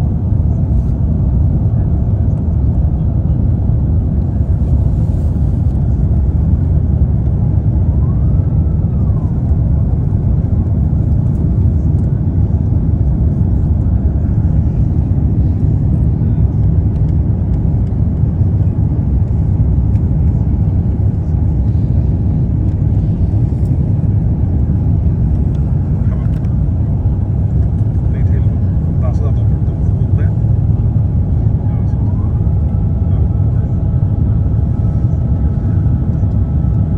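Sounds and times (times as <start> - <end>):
airplane cabin rumble: 0.0 - 36.9.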